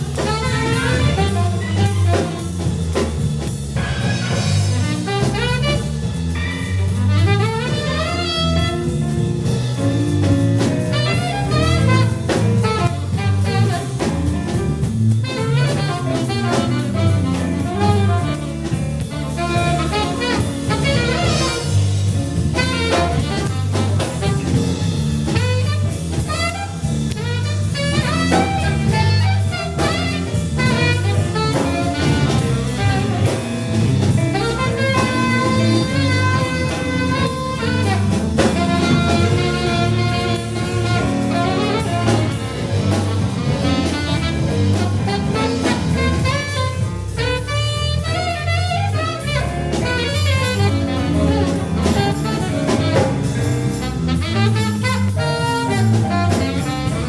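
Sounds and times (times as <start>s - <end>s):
saxophone melody: 0.0s - 3.0s, 3.7s - 57.0s
bass: 0.0s - 57.0s
drum kit: 0.0s - 57.0s.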